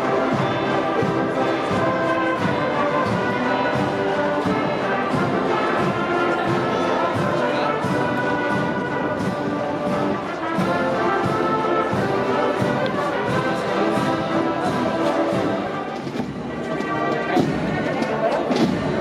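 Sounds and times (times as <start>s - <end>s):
brass band playing march: 0.0s - 19.0s.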